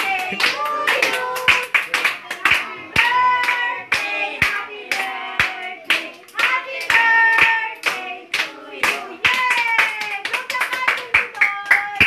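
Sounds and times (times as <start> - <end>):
group singing: 0.0 - 10.0
people clapping: 0.0 - 12.0.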